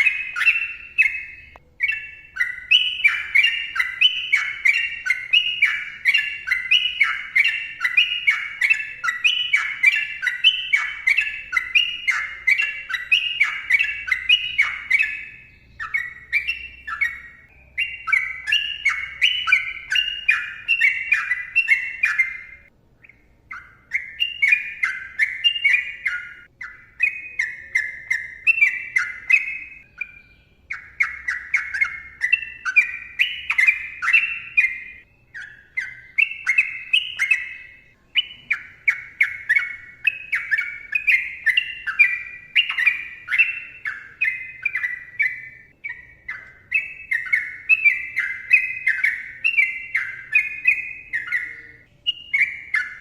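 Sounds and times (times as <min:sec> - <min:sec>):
bulbul singing: 0:00.0 - 0:53.0.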